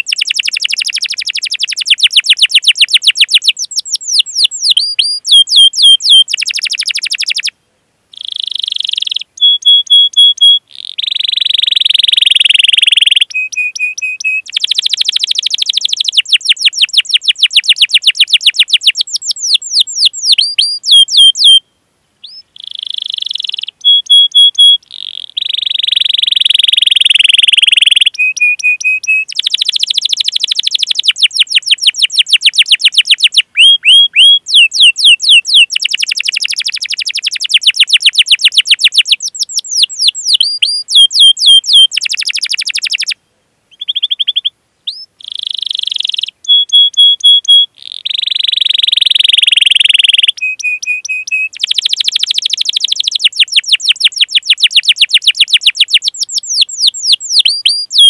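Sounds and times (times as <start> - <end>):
canary singing chirps and trills: 0.0 - 58.0.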